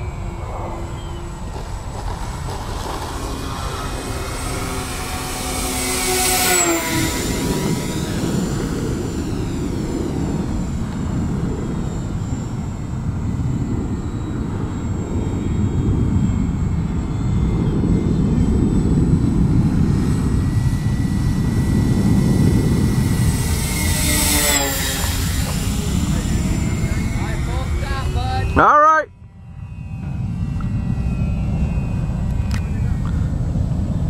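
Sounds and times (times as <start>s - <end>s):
model plane motor whine: 0.0s - 34.0s.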